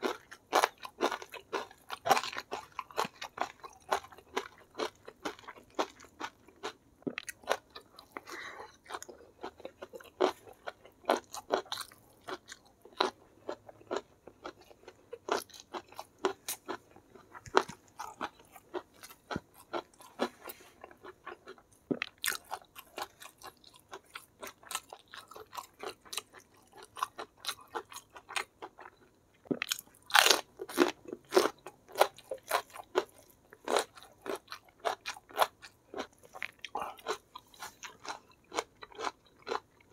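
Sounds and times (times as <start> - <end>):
person chewing crunchy rice: 0.0 - 39.9.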